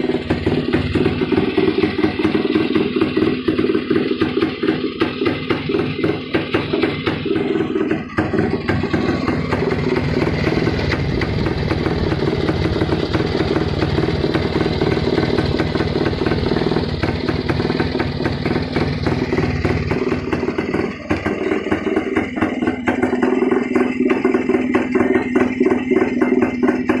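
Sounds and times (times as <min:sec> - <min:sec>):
two-stroke engine running: 0:00.0 - 0:27.0.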